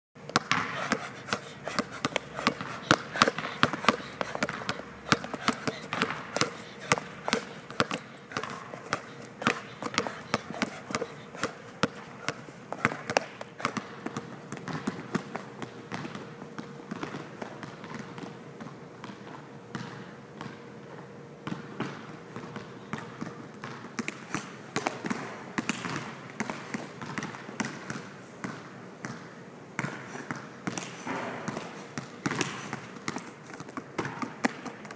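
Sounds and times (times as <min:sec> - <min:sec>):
basketball bouncing on court floor: 0:00.2 - 0:34.9.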